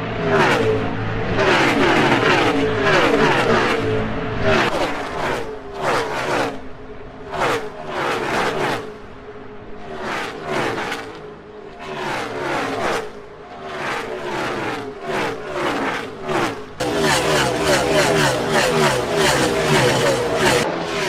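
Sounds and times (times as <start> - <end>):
race cars passing at full throttle: 0.0 - 21.0.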